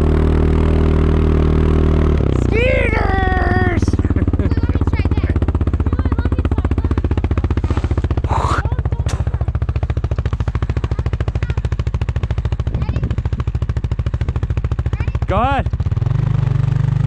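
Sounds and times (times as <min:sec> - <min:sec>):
vehicle engine chugging: 0:00.0 - 0:17.0.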